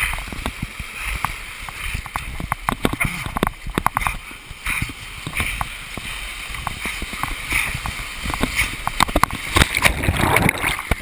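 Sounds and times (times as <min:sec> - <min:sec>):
sharp splashes and knocks: 0:00.0 - 0:11.0
whitewater rapids rushing: 0:00.0 - 0:11.0.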